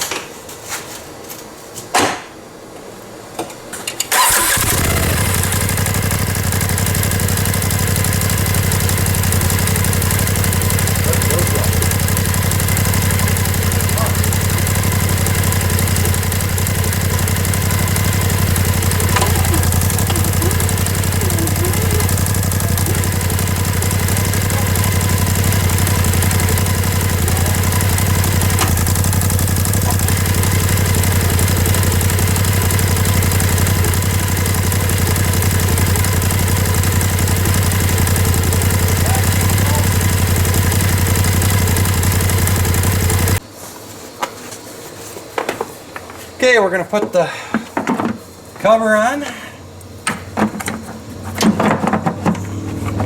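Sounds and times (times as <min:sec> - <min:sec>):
vehicle engine running steadily: 0:04.1 - 0:43.4, 0:49.7 - 0:53.0.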